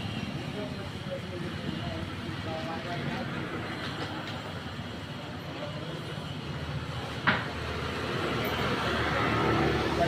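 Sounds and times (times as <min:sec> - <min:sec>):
distant traffic hum: 0:00.0 - 0:10.0.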